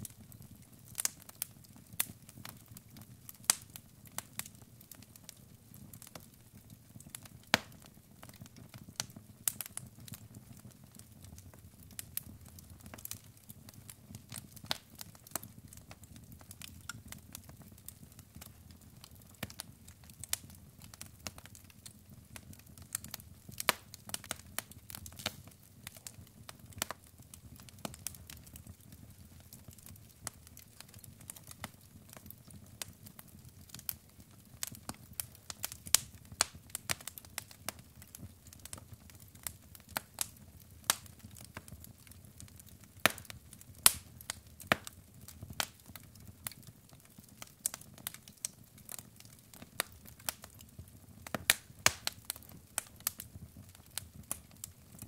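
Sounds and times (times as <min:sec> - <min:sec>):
burning logs popping and snapping: 0:00.0 - 0:55.0.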